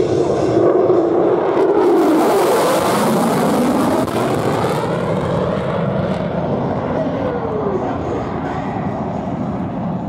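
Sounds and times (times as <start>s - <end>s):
fighter jet passing overhead: 0.0s - 10.0s.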